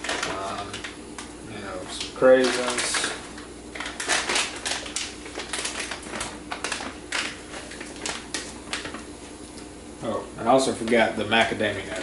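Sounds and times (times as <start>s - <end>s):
plastic packets crinkling: 0.0s - 9.7s.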